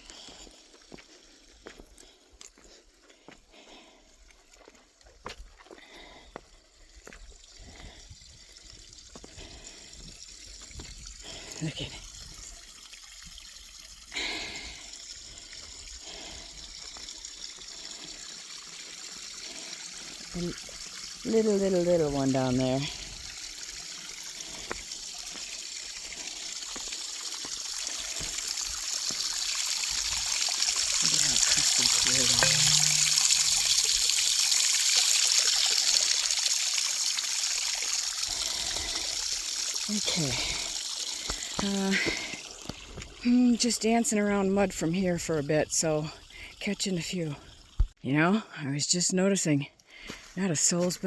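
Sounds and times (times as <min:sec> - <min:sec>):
water trickling and splashing: 0:00.0 - 0:48.0.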